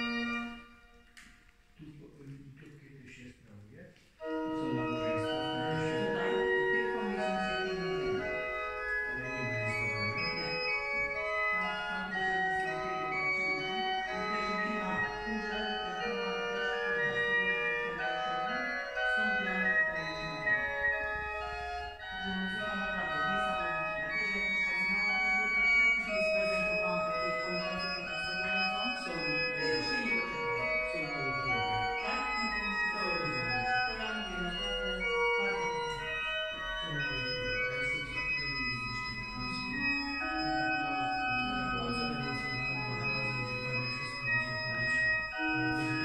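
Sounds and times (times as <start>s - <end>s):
organ playing held chords: 0.0s - 1.2s, 4.2s - 46.0s.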